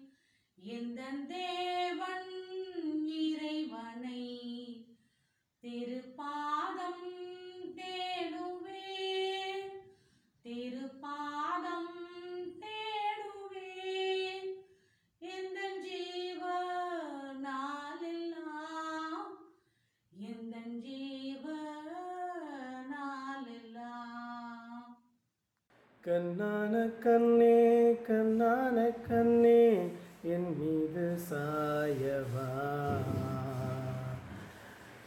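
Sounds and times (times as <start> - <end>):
woman singing unaccompanied: 0.0 - 4.8, 5.6 - 9.8, 10.5 - 14.6, 15.2 - 19.4, 20.2 - 25.0, 26.1 - 34.9.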